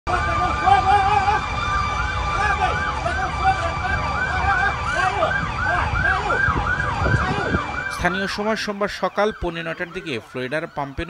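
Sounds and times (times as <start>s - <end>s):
emergency sirens yelping: 0.1s - 11.0s.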